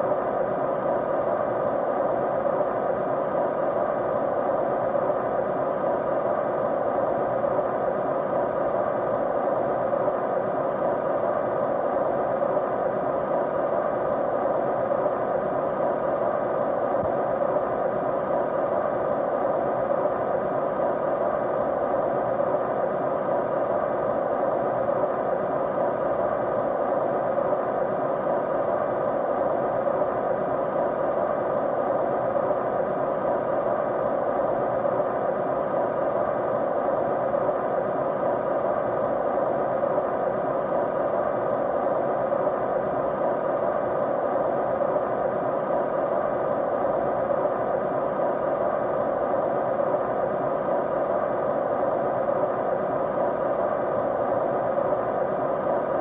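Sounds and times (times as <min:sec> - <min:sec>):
faint steady tones: 0:00.0 - 0:56.0
white noise hiss: 0:00.0 - 0:56.0.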